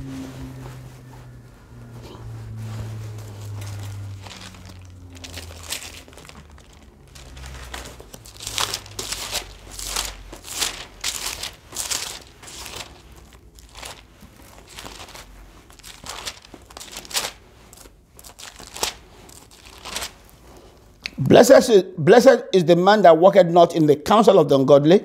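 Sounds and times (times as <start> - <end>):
thin pages rustling: 0.0 - 21.0.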